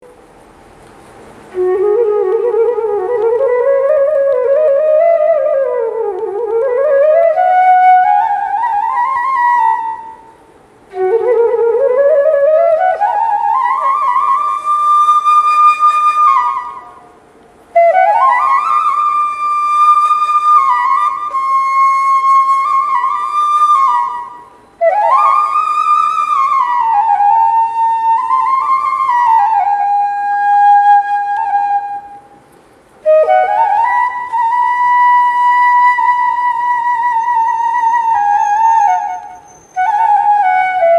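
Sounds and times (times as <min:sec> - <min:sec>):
bamboo flute melody: 0:01.5 - 0:32.4, 0:33.0 - 0:40.9.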